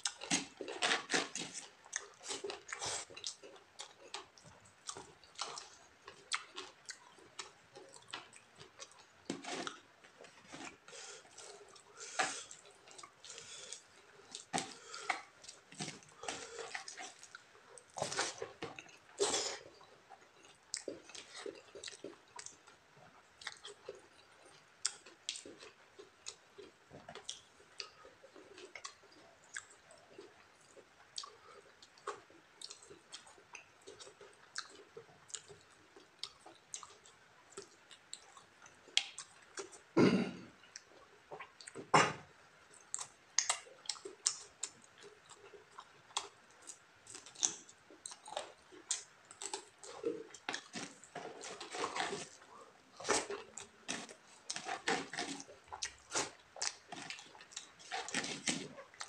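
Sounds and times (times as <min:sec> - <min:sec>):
mouth chewing and lip smacks: 0:00.0 - 0:39.9, 0:42.7 - 0:59.0.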